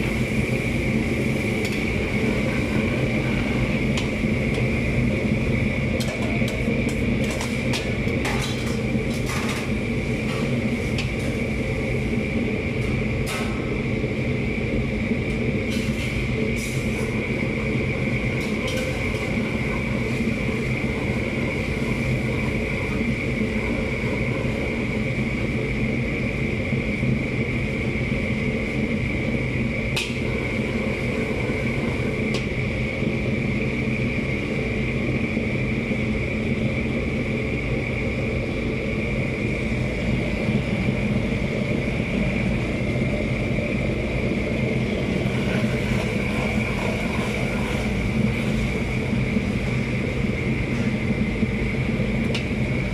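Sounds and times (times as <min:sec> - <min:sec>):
gas wok burner roaring: 0:00.0 - 0:52.9.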